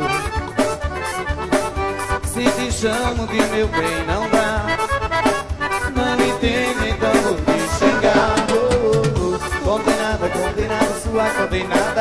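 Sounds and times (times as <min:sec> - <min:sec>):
accordion melody: 0:00.0 - 0:12.0
steady drum beat: 0:00.0 - 0:12.0.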